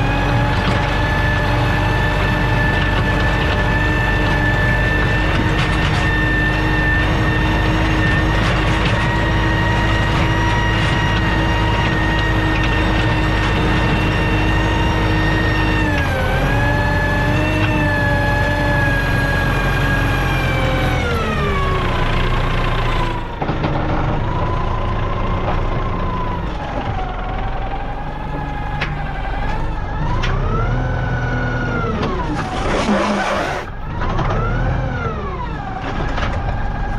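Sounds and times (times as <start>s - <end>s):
tractor engine with high whine: 0.0s - 36.9s.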